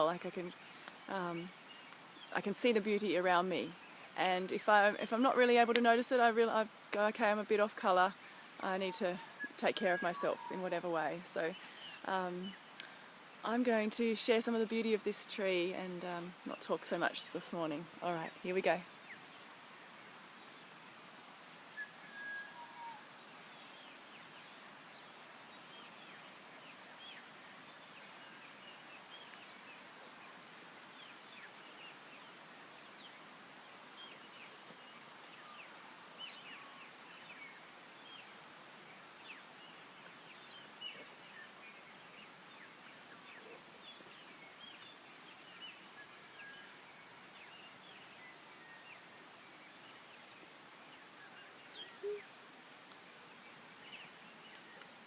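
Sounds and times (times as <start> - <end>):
small birds chirping: 0.0 - 20.9, 21.6 - 55.0
steady hiss: 0.0 - 22.1, 23.0 - 55.0.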